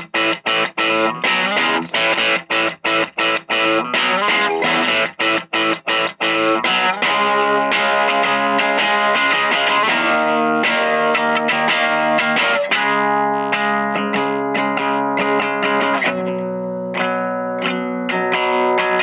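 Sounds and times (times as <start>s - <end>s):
crunchy electric guitar chords: 0.0s - 19.0s.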